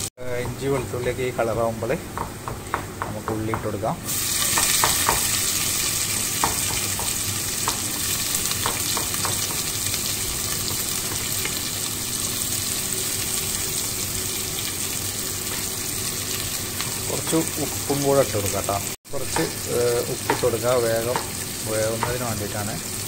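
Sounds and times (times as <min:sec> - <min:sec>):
onions sizzling in oil: 0:04.0 - 0:23.0.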